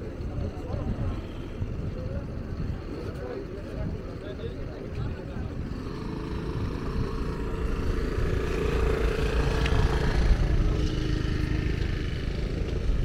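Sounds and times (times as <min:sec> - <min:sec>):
engine running at low speed: 0:00.0 - 0:13.0.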